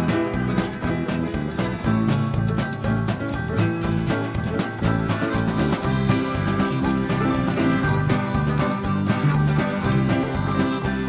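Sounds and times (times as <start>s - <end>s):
upbeat bluegrass music with plucked strings: 0.0s - 11.0s.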